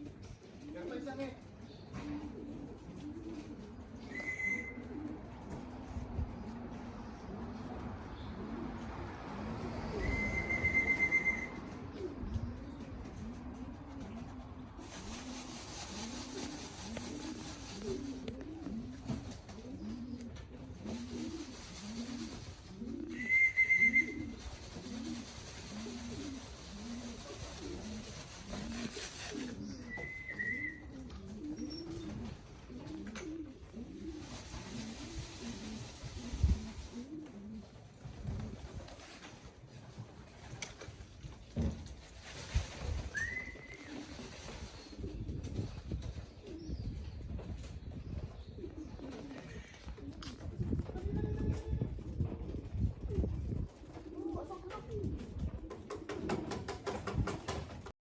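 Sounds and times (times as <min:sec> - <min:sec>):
pigeons cooing: 0:00.0 - 0:39.8, 0:42.8 - 0:57.9.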